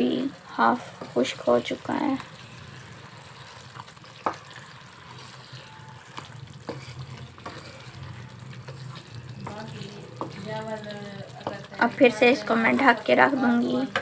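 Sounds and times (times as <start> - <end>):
chicken sizzling in gravy: 0.0 - 14.0.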